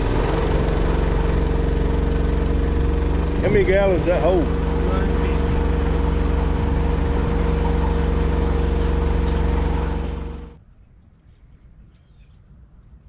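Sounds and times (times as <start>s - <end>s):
engine running steadily: 0.0s - 10.6s.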